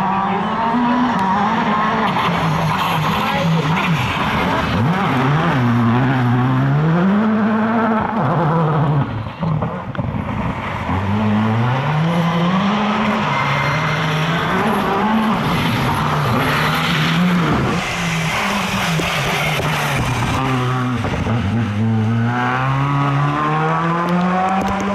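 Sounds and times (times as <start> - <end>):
rally car engine revving: 0.0 - 24.9.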